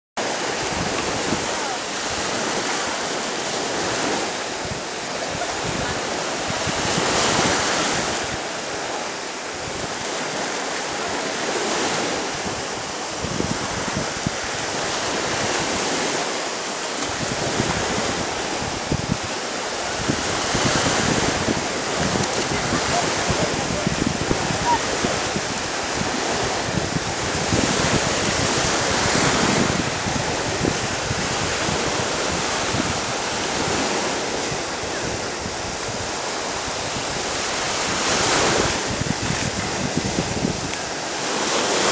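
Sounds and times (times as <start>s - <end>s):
wind buffeting microphone: 0.2s - 41.9s.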